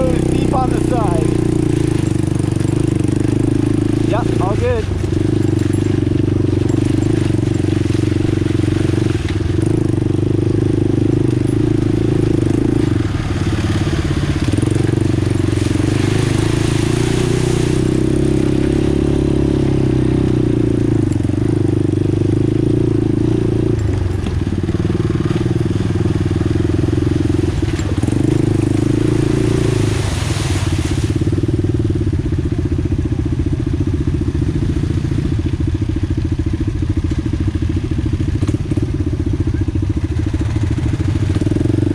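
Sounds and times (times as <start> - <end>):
quad bike engine running: 0.0 - 41.9.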